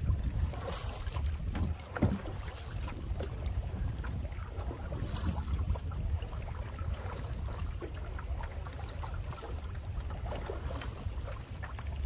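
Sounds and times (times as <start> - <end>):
canoe paddle splashing in water: 0.0 - 12.0
wind rumble on microphone: 0.0 - 12.0.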